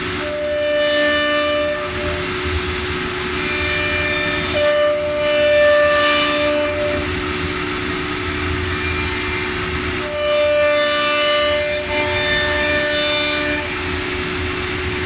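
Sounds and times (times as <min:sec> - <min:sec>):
cnc machine whine: 0:00.0 - 0:15.0.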